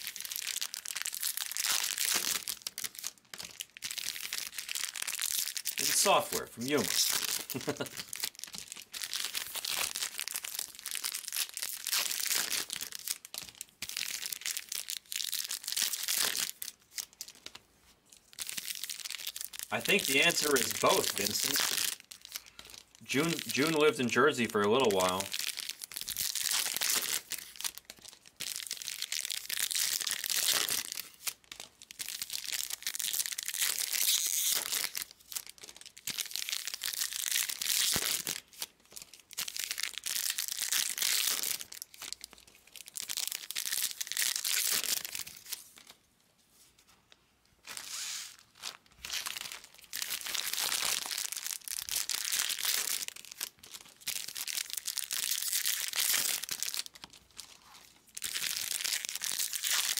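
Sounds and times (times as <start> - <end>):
card pack wrappers tearing: 0.0 - 17.6, 18.3 - 46.0, 47.6 - 59.9.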